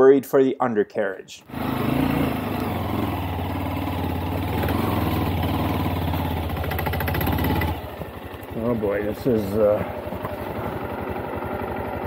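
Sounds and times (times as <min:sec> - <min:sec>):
motorcycle engine running at low revs: 0:01.5 - 0:12.0.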